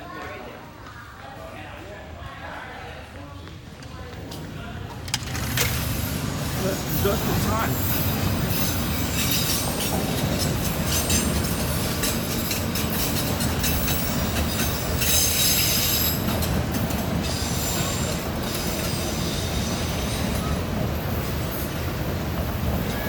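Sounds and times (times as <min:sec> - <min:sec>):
train wheels clicking over rail joints: 0:03.7 - 0:23.0.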